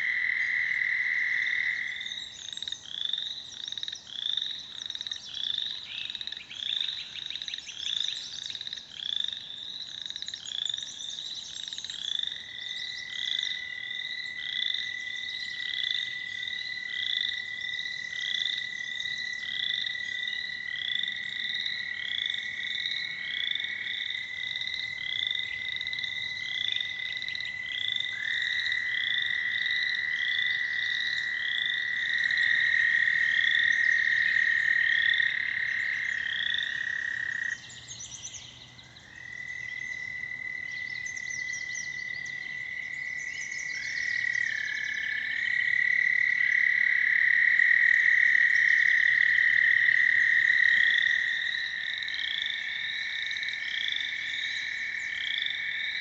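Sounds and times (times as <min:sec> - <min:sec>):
frogs chirping: 0:00.0 - 0:56.0
toads trilling: 0:00.0 - 0:56.0.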